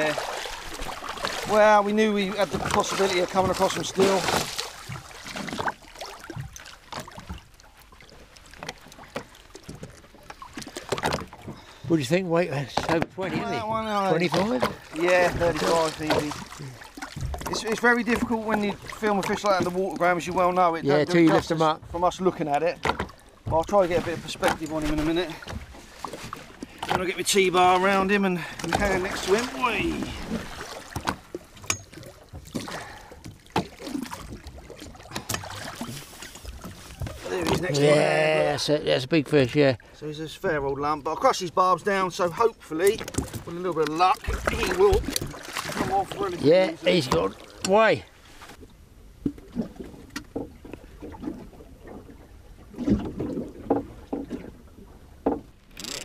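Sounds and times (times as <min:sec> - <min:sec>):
water lapping against boat hull: 0:00.0 - 0:56.0.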